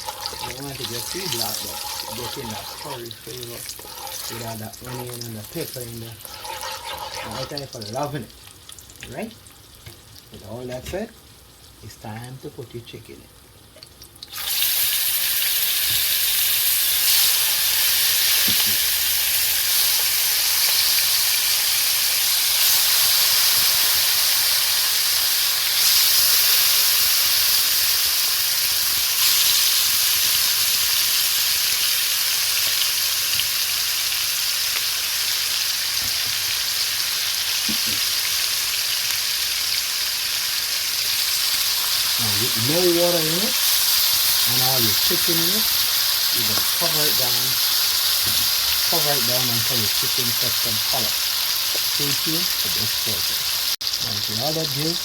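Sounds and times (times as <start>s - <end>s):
food frying in hot oil: 0.0s - 12.6s, 13.4s - 55.0s.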